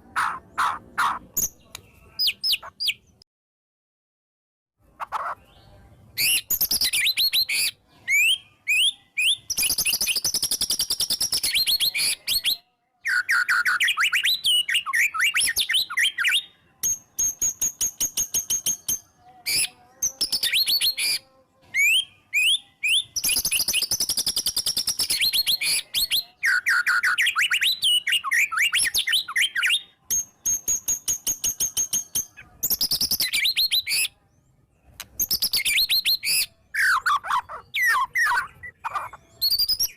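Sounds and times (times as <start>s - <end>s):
songbird singing varied phrases: 0.0s - 3.2s, 4.8s - 39.9s.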